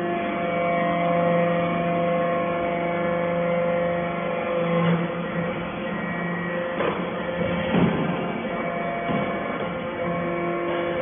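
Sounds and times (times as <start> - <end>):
hydraulic motor and pump humming: 0.0 - 11.0.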